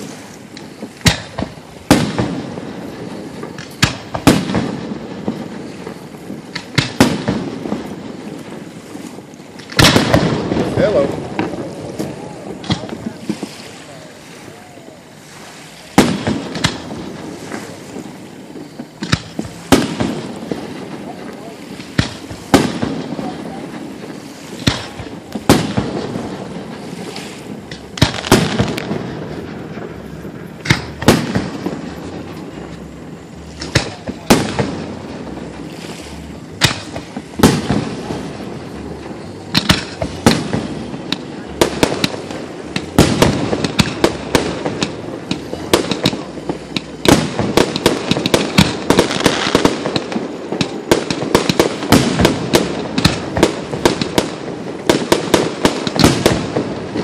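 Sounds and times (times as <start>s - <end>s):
fireworks bangs and crackles: 0.0s - 57.0s
fireworks booming: 0.0s - 57.0s.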